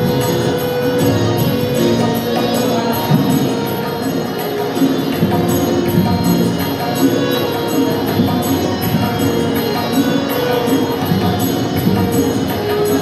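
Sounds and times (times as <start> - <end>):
harmonium: 0.0 - 13.0
synthesizer keyboard melody: 0.0 - 13.0
tabla: 0.0 - 13.0.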